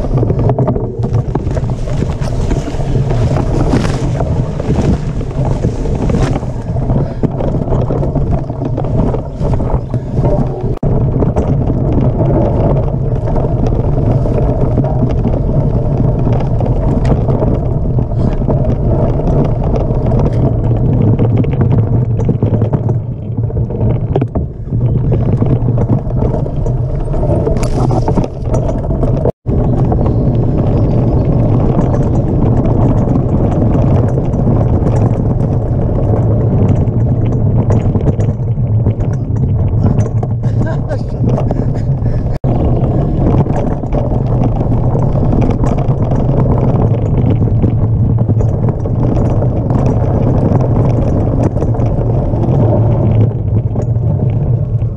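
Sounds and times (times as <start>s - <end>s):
bike tyres rumbling on dirt trail: 0.0s - 54.9s
wind buffeting microphone: 0.0s - 54.9s.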